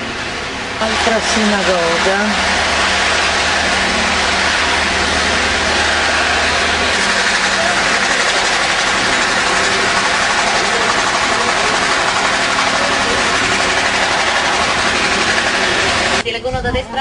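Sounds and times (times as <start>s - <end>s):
loud steady rushing noise: 0.0s - 16.4s.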